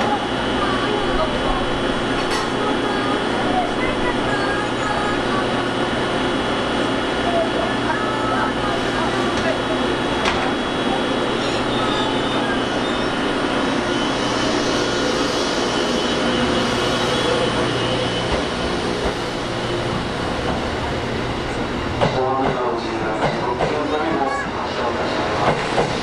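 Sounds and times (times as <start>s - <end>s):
passenger train rumbling past: 0.0s - 26.0s.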